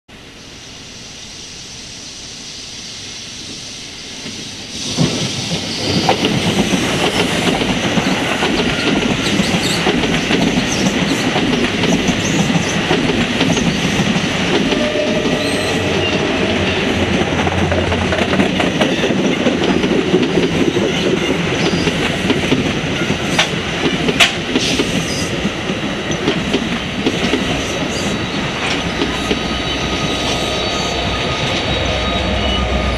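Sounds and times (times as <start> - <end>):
train wheels rumbling on rails: 2.9 - 32.9.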